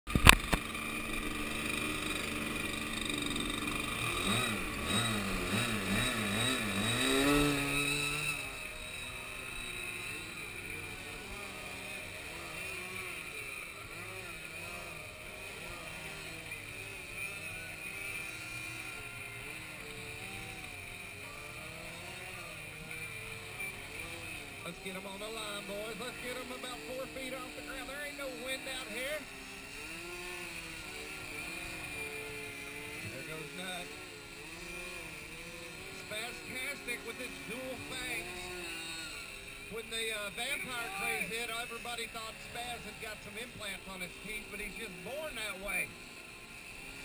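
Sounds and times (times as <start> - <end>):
model plane motors whining: 0.1 - 47.0.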